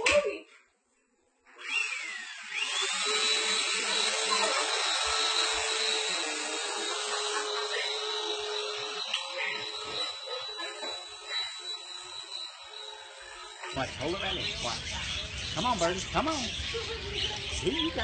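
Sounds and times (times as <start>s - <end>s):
vacuum cleaner running: 1.6s - 18.0s.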